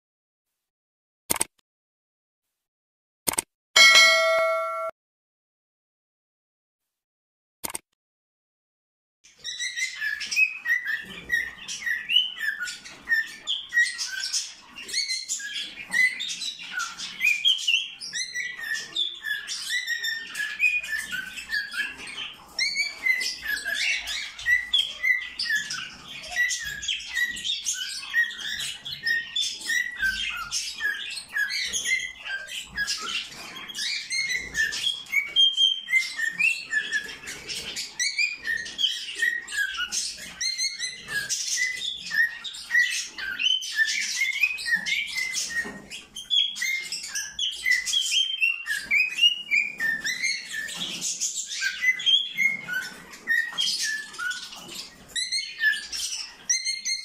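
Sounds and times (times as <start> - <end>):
cockatiel chirping and whistling: 9.4 - 21.9, 22.6 - 57.0.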